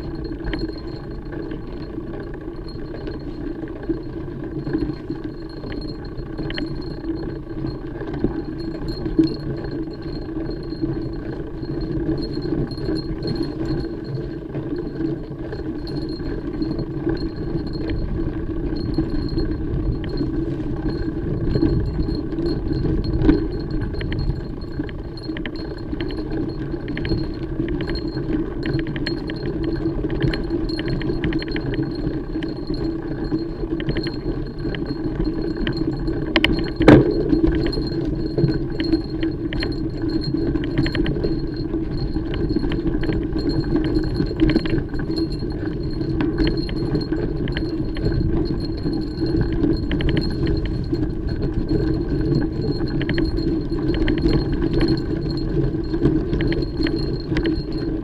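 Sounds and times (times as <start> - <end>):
bike chain rattling: 4.6 - 58.0.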